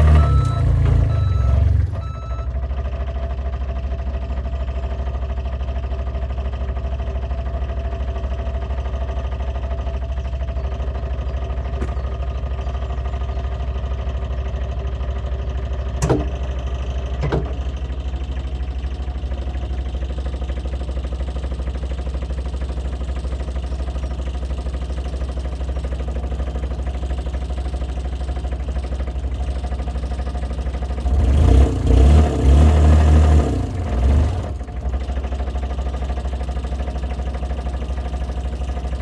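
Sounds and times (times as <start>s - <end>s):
dumper engine idling: 0.0s - 31.5s, 33.2s - 39.0s.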